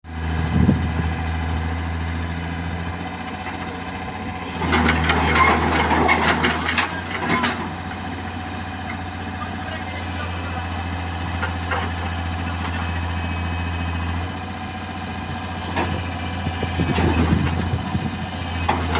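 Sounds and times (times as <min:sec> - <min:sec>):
diesel engine idling: 0:00.1 - 0:18.9
engine knocks and clatter: 0:00.1 - 0:18.9.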